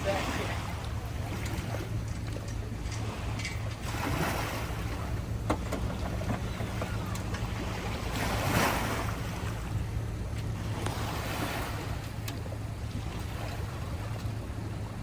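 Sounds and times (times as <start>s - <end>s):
outboard boat motor idling: 0.0s - 15.0s.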